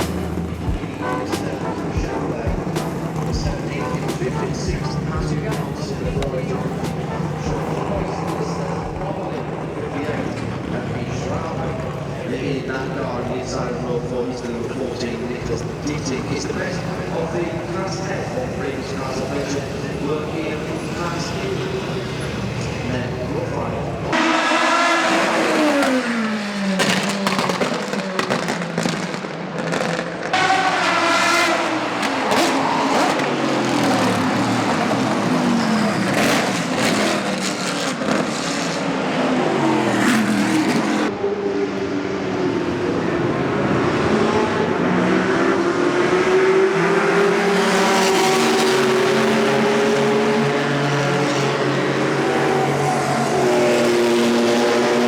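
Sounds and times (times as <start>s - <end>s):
steady racing engine note: 0.0s - 29.1s, 29.7s - 55.0s
racing car engines passing: 0.0s - 55.0s.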